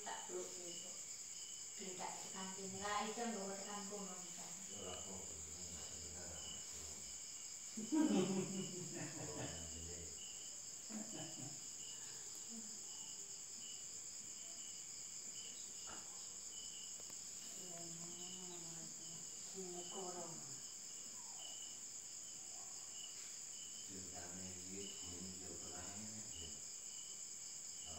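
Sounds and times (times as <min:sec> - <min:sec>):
crickets trilling: 0:00.0 - 0:27.9
lower cricket chirp: 0:00.0 - 0:27.9.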